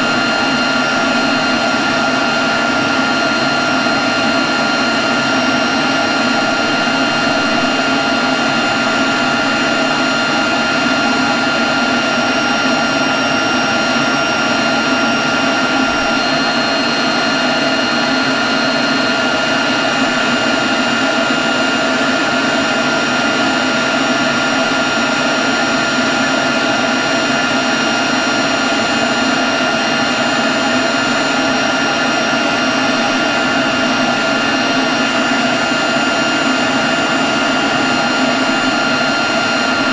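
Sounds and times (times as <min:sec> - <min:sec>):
leaf blower running: 0:00.0 - 0:39.9.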